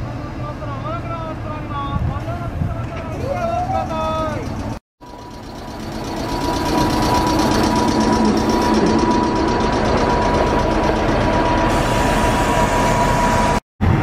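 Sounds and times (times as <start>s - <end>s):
locomotives idling: 0.0s - 13.6s.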